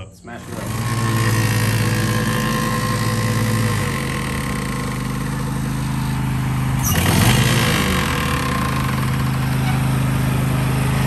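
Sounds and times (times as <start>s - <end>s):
mower engine running: 0.2s - 11.0s.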